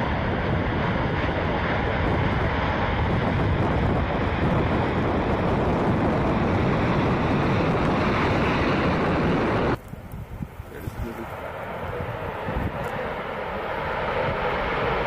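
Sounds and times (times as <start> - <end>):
distant jet engine taking off: 0.0 - 15.0.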